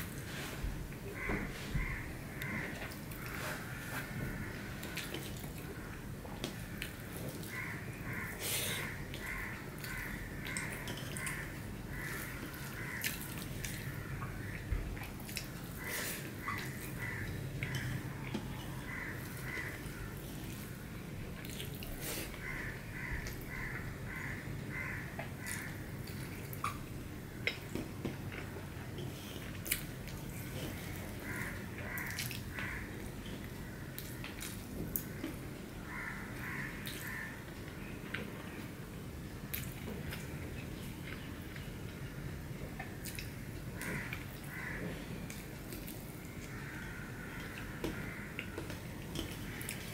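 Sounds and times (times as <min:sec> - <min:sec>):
eating sounds: 0:01.0 - 0:38.8, 0:39.4 - 0:49.9.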